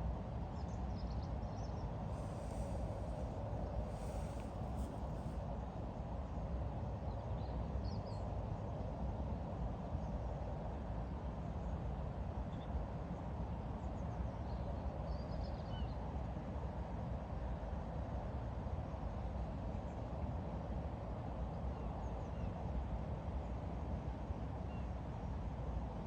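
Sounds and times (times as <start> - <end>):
low rumbling background noise: 0.0 - 26.0.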